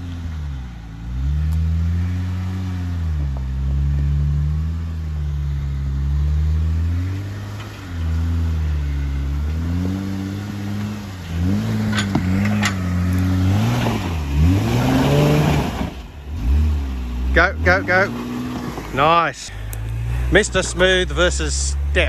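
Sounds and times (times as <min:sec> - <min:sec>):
engine revving under load: 0:00.0 - 0:22.0.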